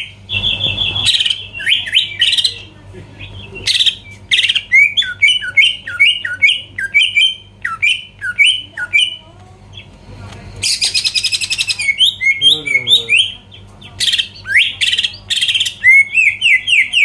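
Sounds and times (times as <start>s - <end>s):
bird harsh buzzy chattering: 0.0s - 9.9s, 10.6s - 17.0s.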